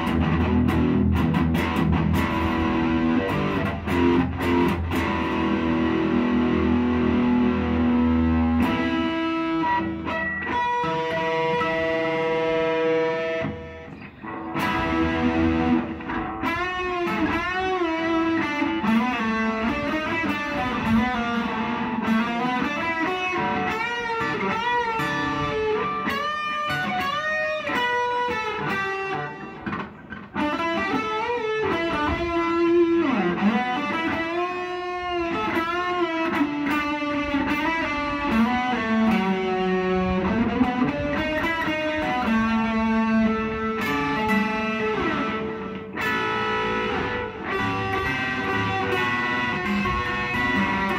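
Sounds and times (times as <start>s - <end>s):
electric guitar lead with bends: 0.0s - 50.9s.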